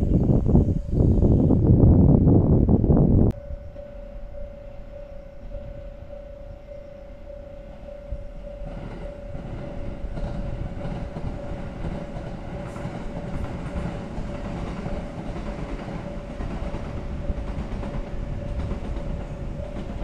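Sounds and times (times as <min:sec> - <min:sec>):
electric train running on rails: 0:00.0 - 0:20.0.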